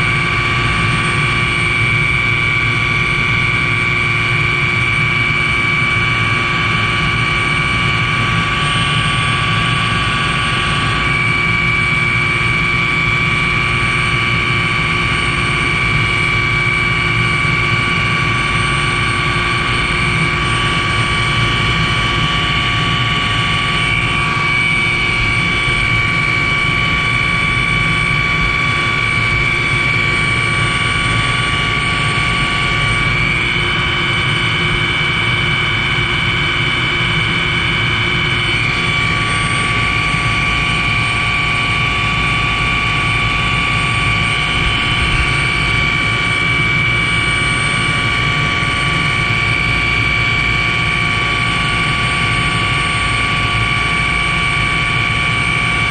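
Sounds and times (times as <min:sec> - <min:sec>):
helicopter engine and rotor noise: 0:00.0 - 0:55.9
high-pitched whine: 0:00.0 - 0:55.9.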